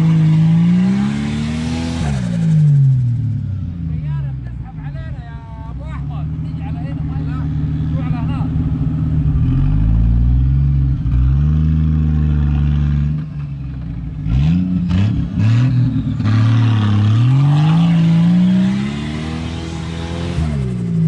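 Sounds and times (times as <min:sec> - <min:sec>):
off-road engine revving: 0:00.0 - 0:21.0.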